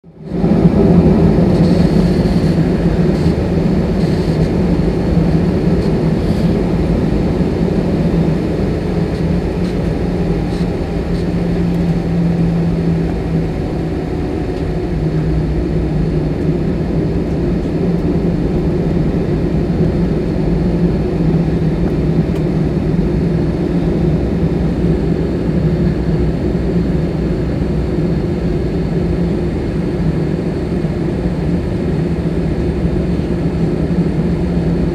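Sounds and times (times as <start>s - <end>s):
jet engines cabin drone: 0.0s - 34.9s.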